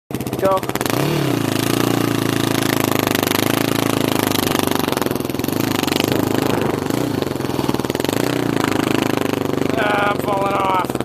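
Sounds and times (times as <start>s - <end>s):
small engine running: 0.1s - 11.0s.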